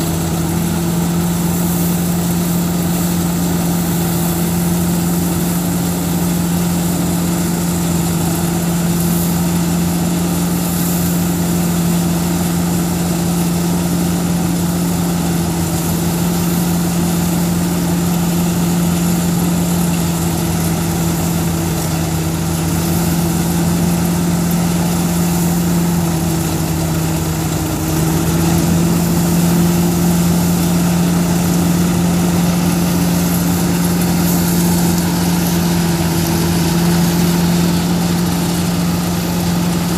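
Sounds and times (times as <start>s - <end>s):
tractor engine and thresher drone: 0.0s - 39.9s.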